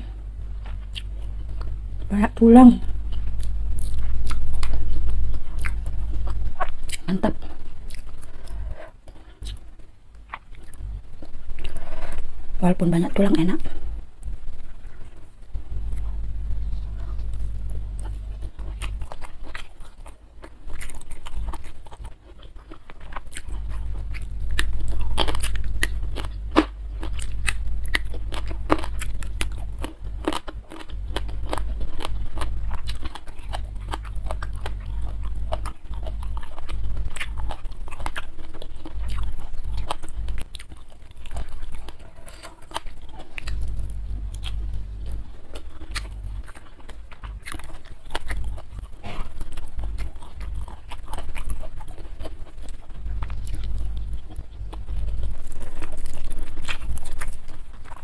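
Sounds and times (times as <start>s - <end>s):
close chewing: 0.0s - 58.0s
low steady hum: 0.0s - 58.0s.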